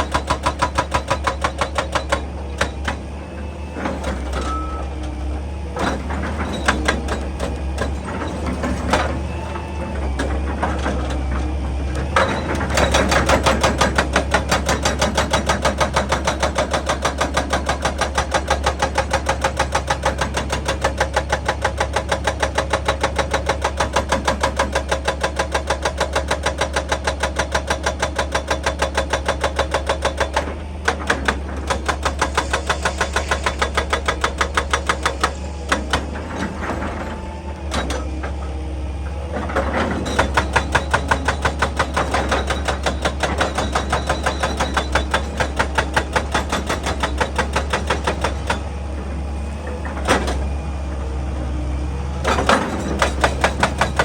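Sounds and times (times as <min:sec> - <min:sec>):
excavator diesel engine humming: 0:00.0 - 0:54.0.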